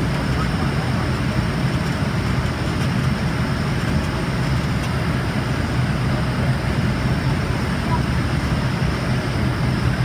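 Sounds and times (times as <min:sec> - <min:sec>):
jet engines droning: 0:00.0 - 0:10.0.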